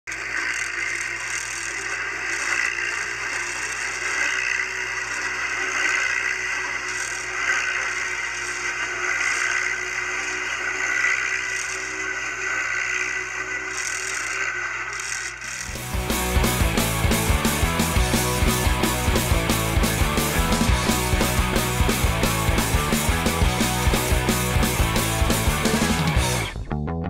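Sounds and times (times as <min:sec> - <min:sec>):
vehicle engine running: 0:00.1 - 0:26.7.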